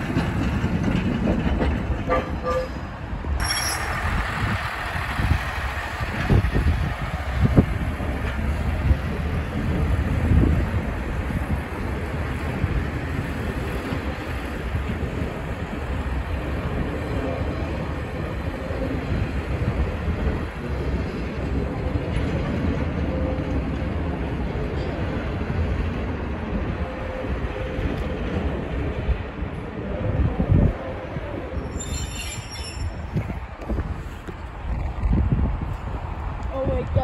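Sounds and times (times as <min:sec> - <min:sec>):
railway carriage rumbling: 0:00.0 - 0:37.0.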